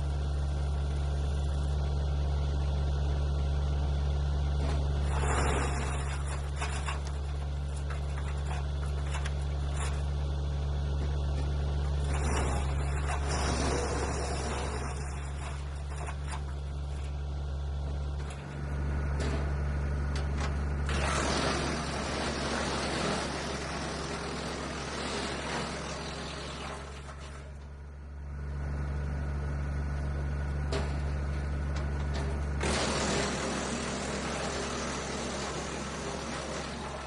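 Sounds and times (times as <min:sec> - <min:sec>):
wood chipper drone: 0:00.0 - 0:37.0.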